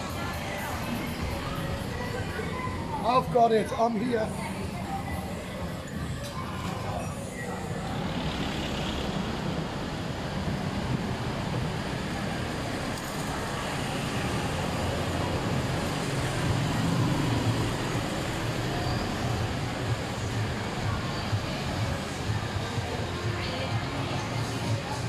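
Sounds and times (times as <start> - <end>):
passing motor vehicles: 0.0 - 25.0.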